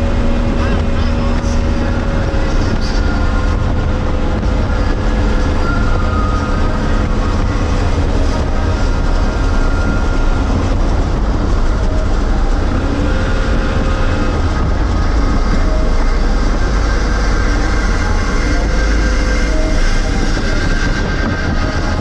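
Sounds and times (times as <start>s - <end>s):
rushing wind: 0.0s - 22.0s
speedboat engine drone: 0.0s - 22.0s
water noise: 0.0s - 22.0s.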